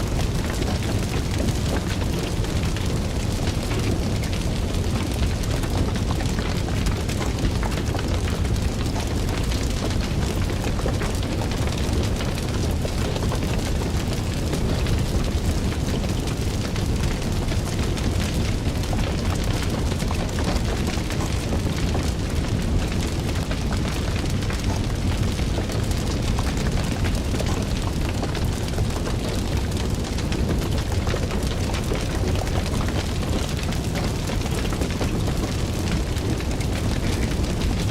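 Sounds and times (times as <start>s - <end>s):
fire crackling and popping: 0.0s - 37.9s.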